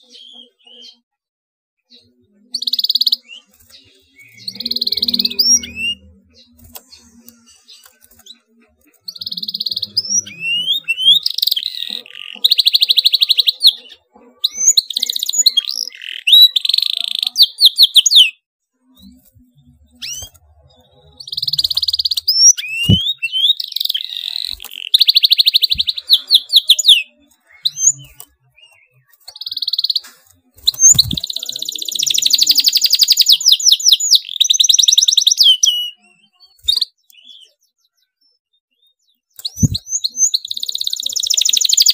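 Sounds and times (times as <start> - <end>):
canary singing: 0.0 - 1.0, 1.9 - 41.9.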